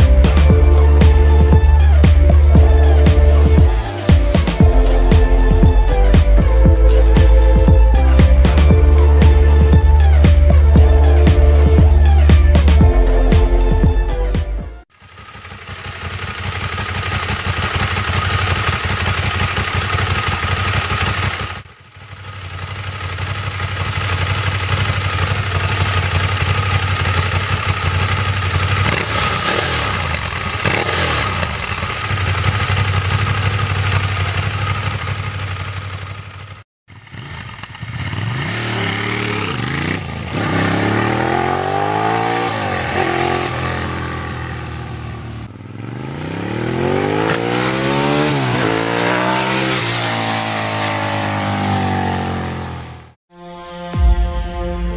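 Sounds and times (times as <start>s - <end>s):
motorcycle engine revving: 0.0s - 53.2s.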